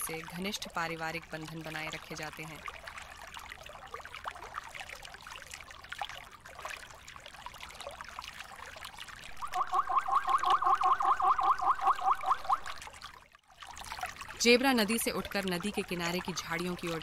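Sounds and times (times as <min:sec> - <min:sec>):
river water splashing: 0:00.0 - 0:17.0.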